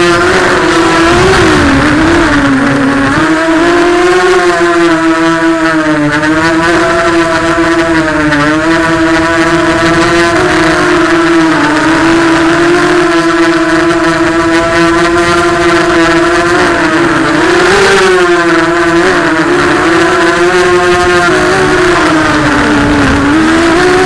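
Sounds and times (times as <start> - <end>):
quadcopter motors buzzing whine: 0.0 - 24.0.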